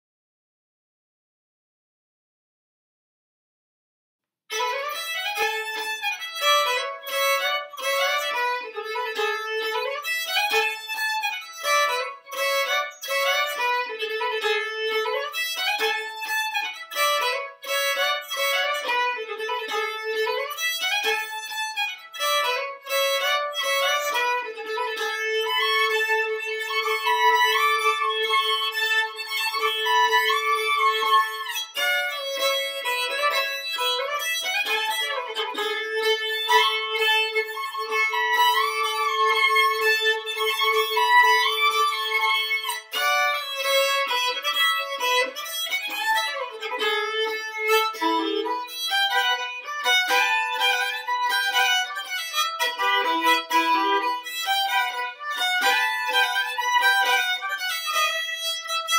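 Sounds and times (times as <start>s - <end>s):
solo violin melody: 4.5s - 58.9s.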